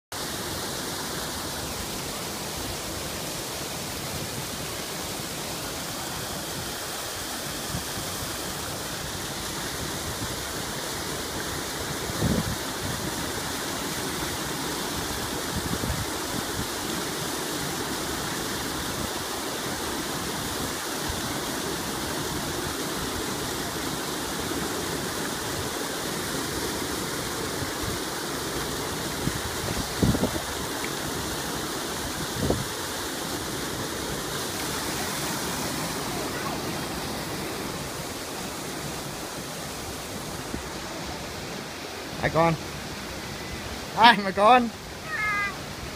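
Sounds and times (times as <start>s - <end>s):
fast-flowing river water: 0.1s - 45.9s.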